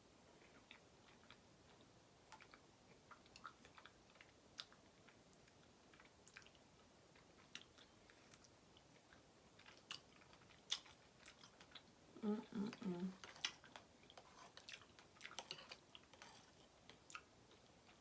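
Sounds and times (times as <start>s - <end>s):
chewing with wet mouth clicks: 0.4s - 12.0s, 12.7s - 18.0s.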